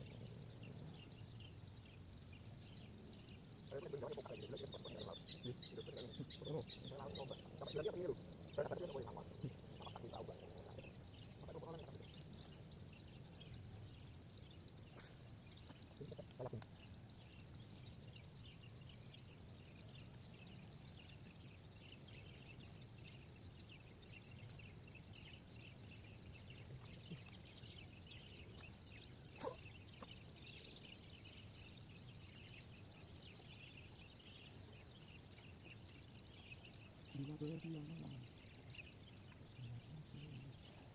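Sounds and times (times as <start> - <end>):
faint chirping: 0.0 - 40.9
high insect drone: 0.0 - 40.9.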